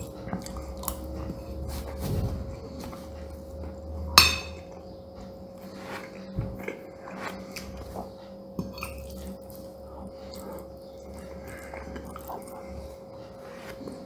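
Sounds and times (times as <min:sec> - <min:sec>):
chewing food: 0:00.0 - 0:14.0
steady hum: 0:00.0 - 0:14.0.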